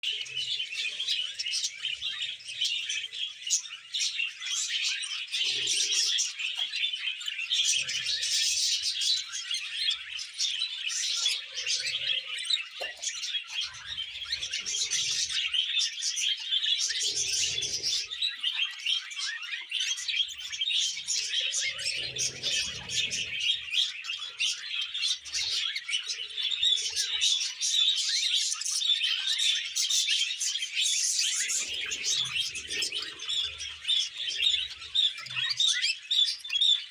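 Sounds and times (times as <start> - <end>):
budgerigars chattering and warbling: 0.0 - 36.9.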